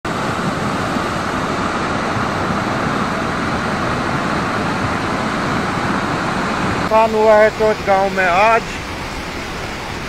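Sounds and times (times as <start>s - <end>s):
river rushing over rocks: 0.1s - 10.0s.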